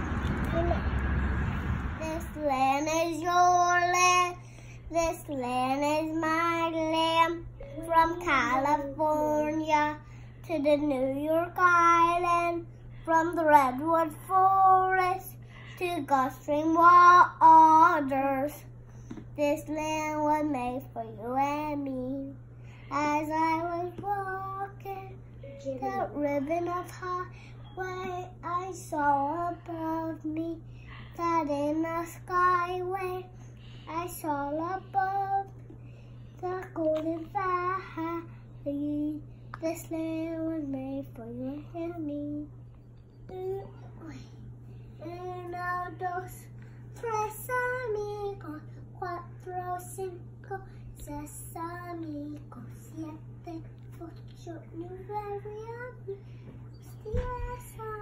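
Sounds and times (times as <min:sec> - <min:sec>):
faint low hum: 0:00.0 - 0:58.0
girl singing: 0:00.0 - 0:58.0.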